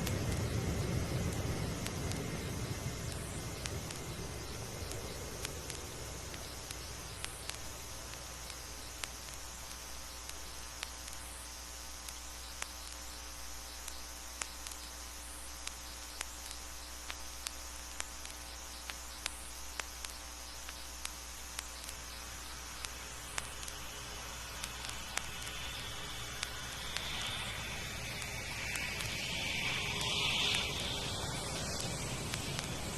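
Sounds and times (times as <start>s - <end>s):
faint steady tone: 0.0s - 32.9s
vinyl clicks and pops: 0.0s - 32.9s
vinyl record hiss and hum: 0.0s - 32.9s.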